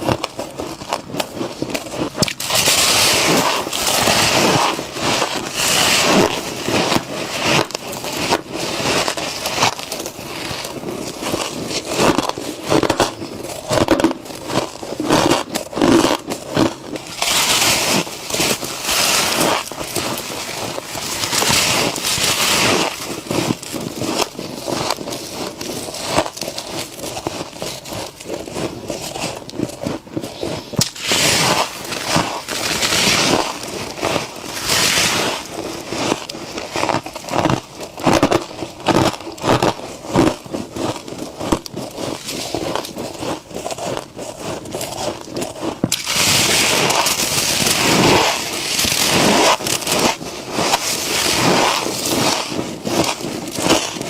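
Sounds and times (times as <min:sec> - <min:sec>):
frost crunching as it is chewed: 0:00.0 - 0:54.0.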